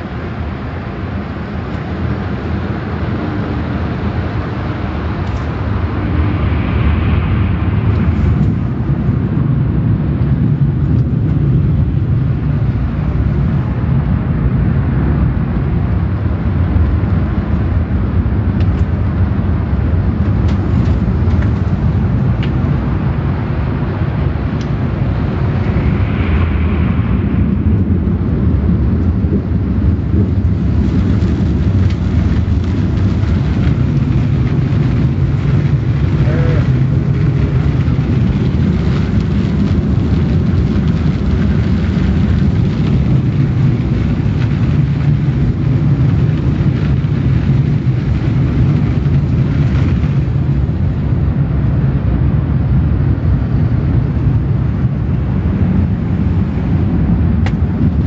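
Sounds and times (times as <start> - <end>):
car wash equipment rumbling: 0.0 - 58.0.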